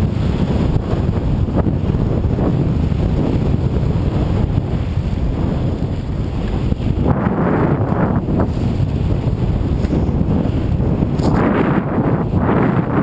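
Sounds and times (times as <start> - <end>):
bike tyres rumbling on dirt: 0.0 - 13.0
wind buffeting microphone: 0.0 - 13.0.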